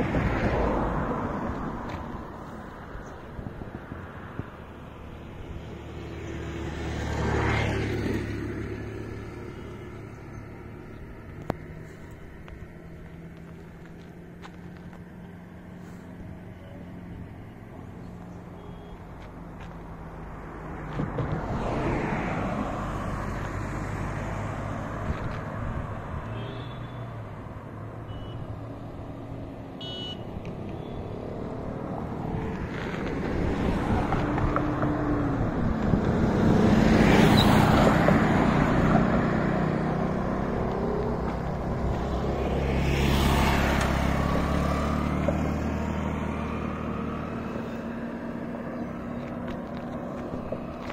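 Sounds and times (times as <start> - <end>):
cars passing on highway: 0.0 - 50.9.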